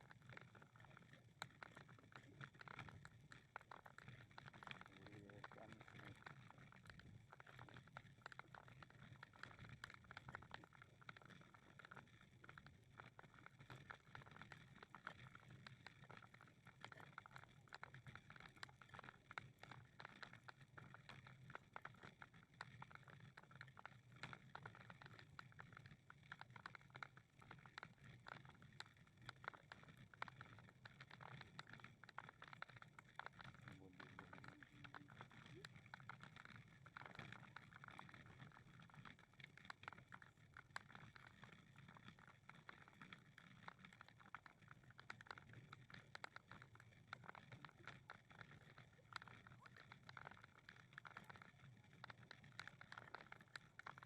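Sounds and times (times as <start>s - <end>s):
small irregular clicks: 0.0s - 54.0s.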